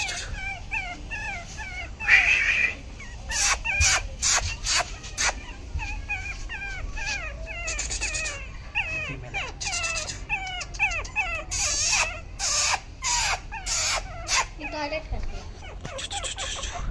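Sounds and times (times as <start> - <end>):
puppy harsh cries: 0.0 - 16.9
puppy whimpering: 0.0 - 16.9.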